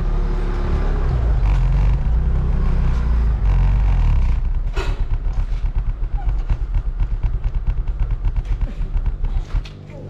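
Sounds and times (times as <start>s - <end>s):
motorbike engine rumble: 0.0s - 10.0s
road noise: 0.0s - 10.0s.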